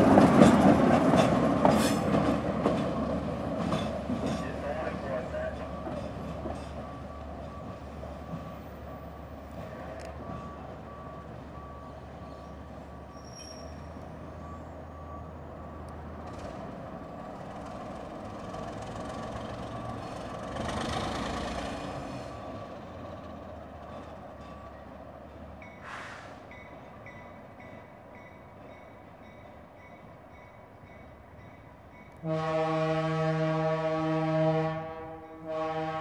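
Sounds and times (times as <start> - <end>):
diesel locomotive engine drone: 0.0 - 36.0.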